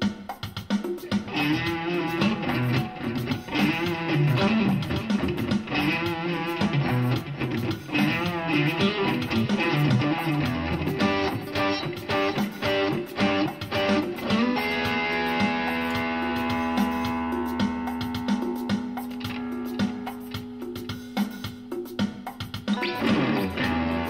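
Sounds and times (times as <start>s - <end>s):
electric guitar melody: 1.0s - 24.0s.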